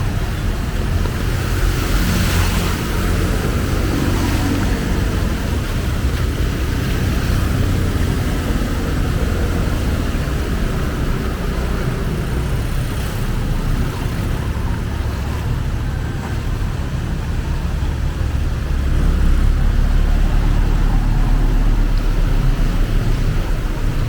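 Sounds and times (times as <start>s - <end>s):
heavy rain falling: 0.0s - 24.0s
traffic engines rumbling: 0.0s - 24.0s.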